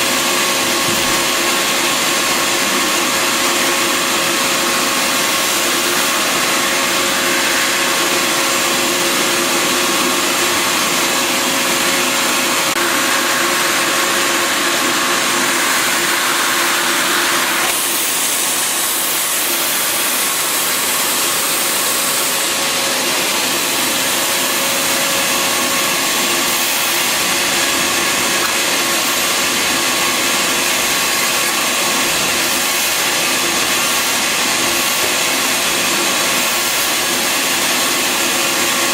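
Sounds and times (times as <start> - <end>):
shop vacuum running: 0.0 - 38.9.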